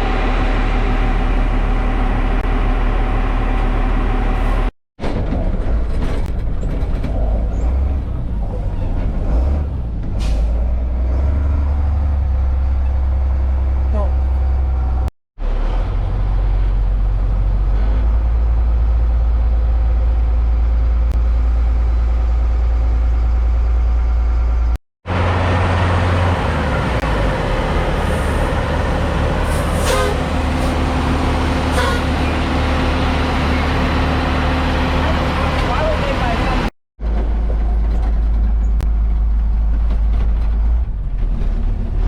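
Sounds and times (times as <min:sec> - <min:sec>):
diesel engine droning: 0:00.0 - 0:42.0.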